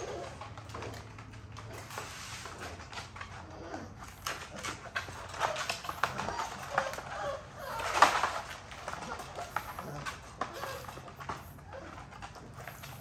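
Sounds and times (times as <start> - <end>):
puppy grunting and whimpering: 0.0 - 13.0.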